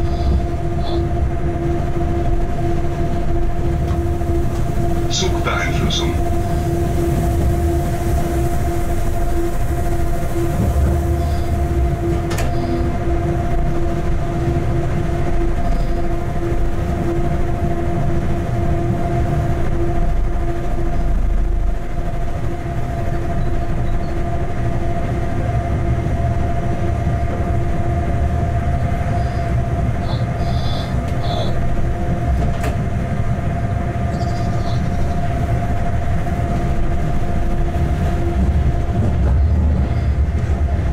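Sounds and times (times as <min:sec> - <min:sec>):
constant hum: 0:00.0 - 0:40.9
rumble of wheels on rails: 0:00.0 - 0:40.9.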